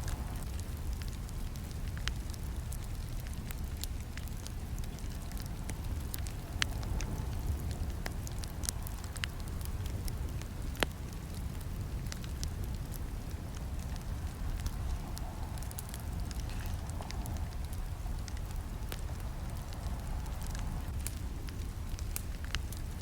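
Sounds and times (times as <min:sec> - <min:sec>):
campfire crackling and popping: 0:00.0 - 0:23.0
low rumble of flames: 0:00.0 - 0:23.0.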